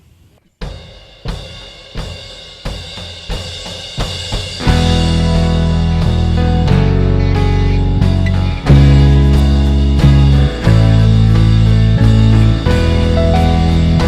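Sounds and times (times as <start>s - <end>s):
drum and cymbal hits: 0.4s - 14.0s
band playing bass and chords: 2.7s - 14.0s.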